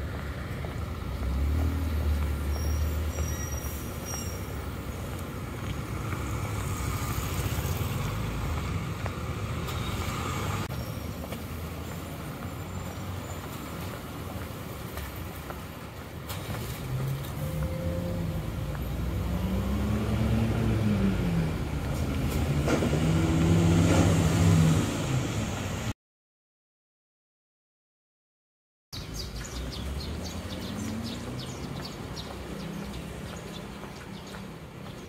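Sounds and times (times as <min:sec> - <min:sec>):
road traffic rumble: 0:00.0 - 0:26.0, 0:29.0 - 0:35.0.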